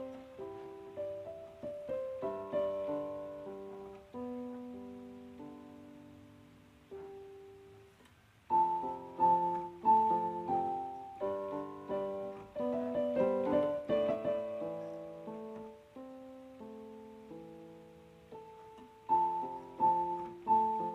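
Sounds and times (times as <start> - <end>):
slow piano music: 0.0 - 20.9.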